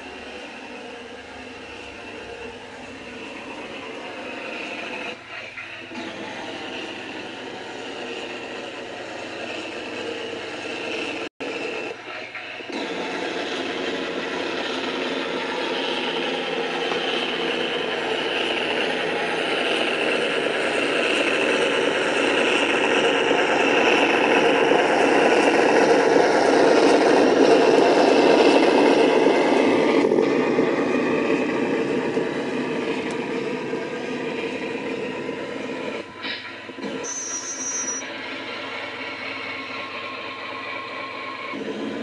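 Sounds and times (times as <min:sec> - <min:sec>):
toy truck motor drone and rattle: 0:00.0 - 0:36.1, 0:36.7 - 0:42.0.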